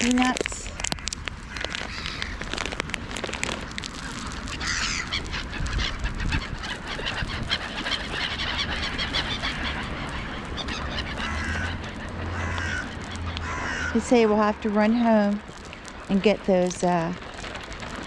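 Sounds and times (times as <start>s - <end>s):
wild birds calling: 0.0s - 18.0s.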